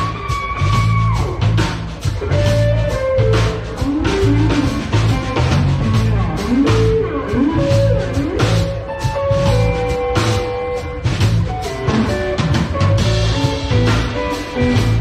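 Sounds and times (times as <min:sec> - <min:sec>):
band music with guitar and drums: 0:00.0 - 0:15.0.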